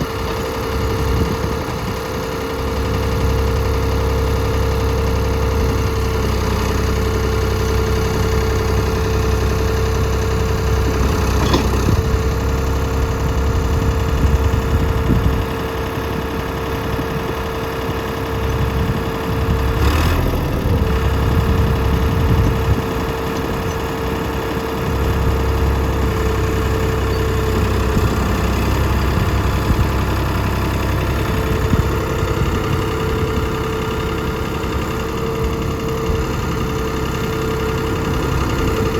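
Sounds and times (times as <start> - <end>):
constant mechanical whine: 0.0 - 38.9
diesel engine running: 0.0 - 38.9.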